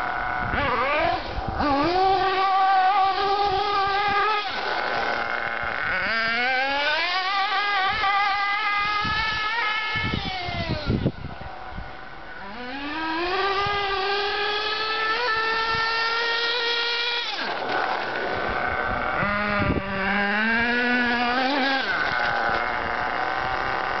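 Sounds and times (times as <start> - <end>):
rc car engine revving: 0.0 - 24.0.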